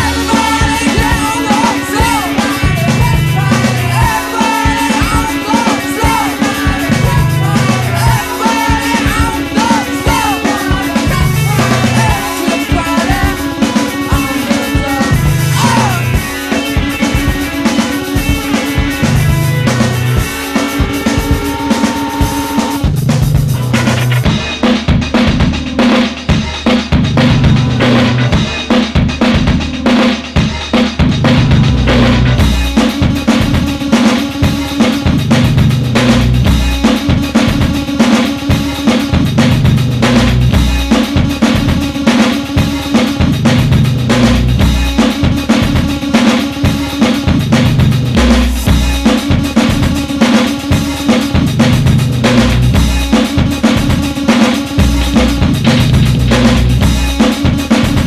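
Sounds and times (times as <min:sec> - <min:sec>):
bass line: 0:00.0 - 0:58.0
rock drum beat: 0:00.0 - 0:58.0.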